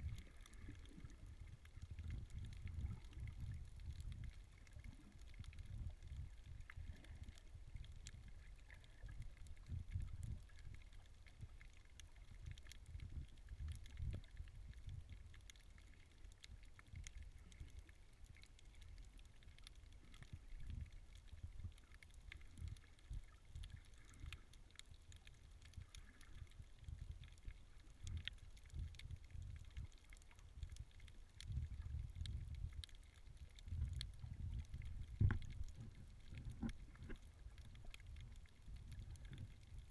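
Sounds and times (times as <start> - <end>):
faint clicks: 0.0 - 39.9
underwater rumble of moving water: 0.0 - 39.9.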